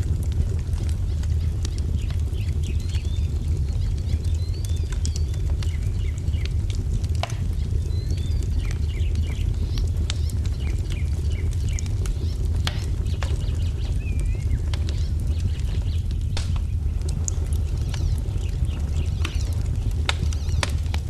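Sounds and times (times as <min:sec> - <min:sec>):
wood fire crackling and popping: 0:00.0 - 0:21.0
small birds chirping: 0:00.5 - 0:21.0.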